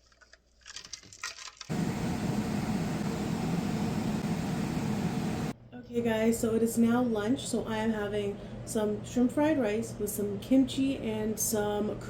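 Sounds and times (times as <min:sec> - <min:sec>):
machine whirring with low hum: 0:01.7 - 0:12.0.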